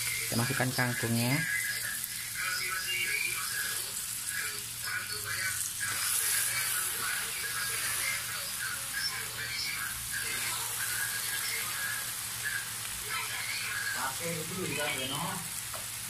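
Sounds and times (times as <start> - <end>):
greens sizzling in hot oil: 0.0 - 16.0.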